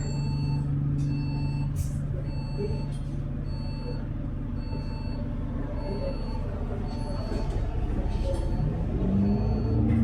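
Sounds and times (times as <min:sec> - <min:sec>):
bus engine hum: 0:00.0 - 0:10.0.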